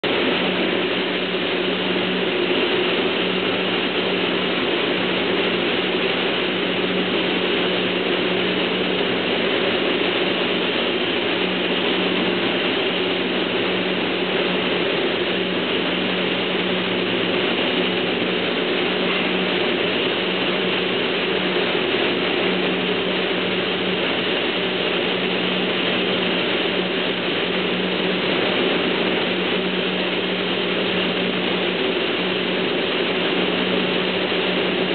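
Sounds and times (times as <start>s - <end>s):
constant low machinery hum: 0.0s - 34.9s.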